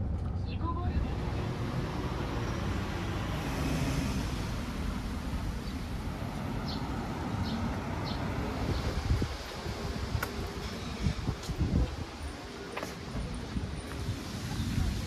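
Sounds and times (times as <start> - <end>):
road traffic rushing by: 0.0 - 15.0.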